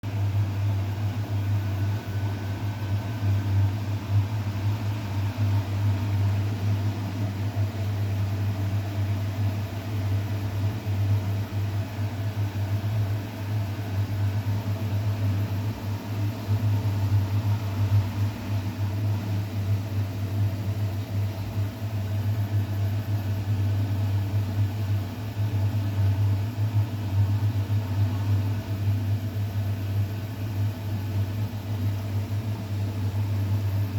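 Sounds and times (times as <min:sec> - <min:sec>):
washing machine spinning hum: 0:00.0 - 0:33.9.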